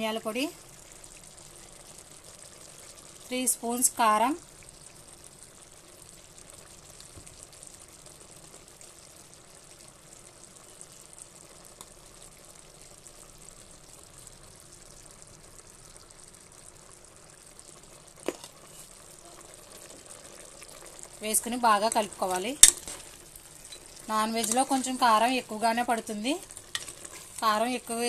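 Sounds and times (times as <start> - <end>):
chicken sizzling in pot: 0.0 - 28.0.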